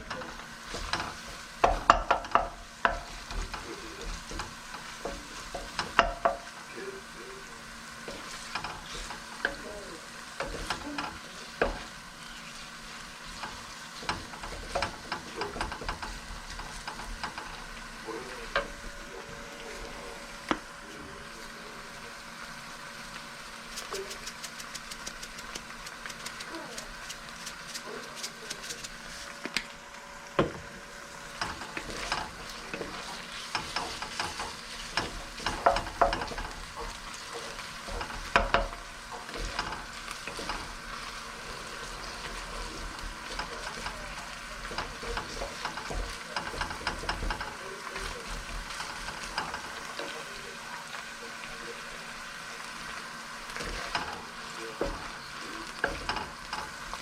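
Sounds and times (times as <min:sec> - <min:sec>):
spatula scraping a pan: 0:00.0 - 0:29.4, 0:30.5 - 0:57.0
rice sizzling in a pan: 0:00.0 - 0:57.0.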